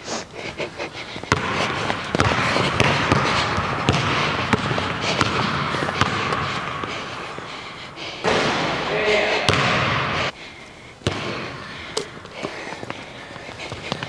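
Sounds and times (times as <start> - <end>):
basketball bouncing on wooden floor: 1.2 - 7.5, 8.2 - 10.3, 11.0 - 14.0.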